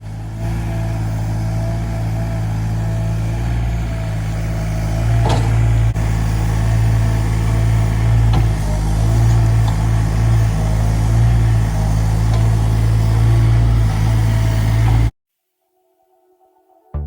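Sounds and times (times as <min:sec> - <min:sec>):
diesel engine running: 0:00.0 - 0:15.1.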